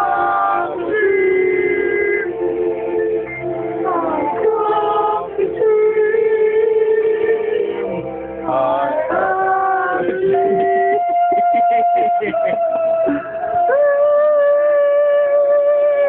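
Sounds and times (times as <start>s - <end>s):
high voice singing: 0.0s - 2.9s, 3.8s - 16.0s
music: 0.0s - 16.0s.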